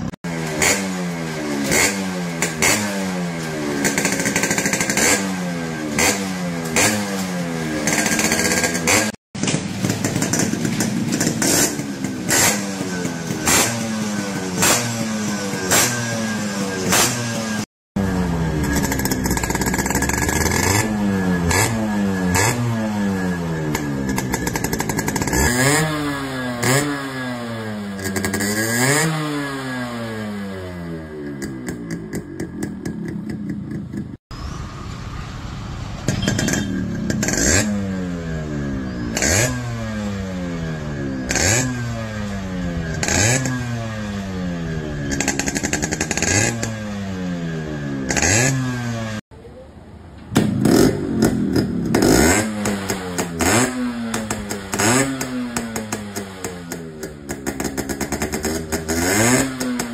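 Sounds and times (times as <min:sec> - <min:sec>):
motorcycle engine revving: 0:00.0 - 0:49.3, 0:50.3 - 0:59.9.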